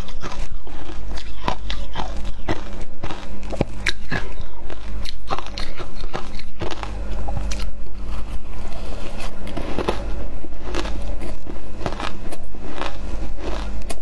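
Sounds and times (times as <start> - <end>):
crushed ice crunching when chewed: 0.0 - 14.0.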